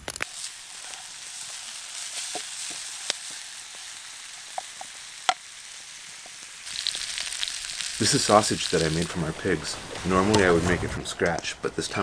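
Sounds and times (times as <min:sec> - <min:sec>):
oil popping and crackling: 0:00.0 - 0:12.0
vegetables sizzling in a pan: 0:00.2 - 0:10.7.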